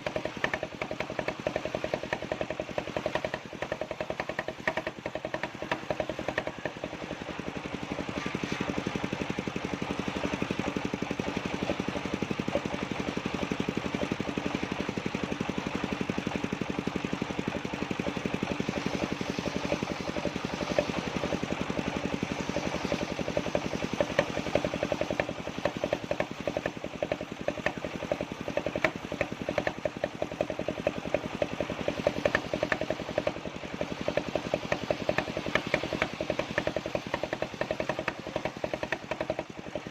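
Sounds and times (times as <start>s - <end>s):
circular sawmill drone: 0.0s - 39.9s.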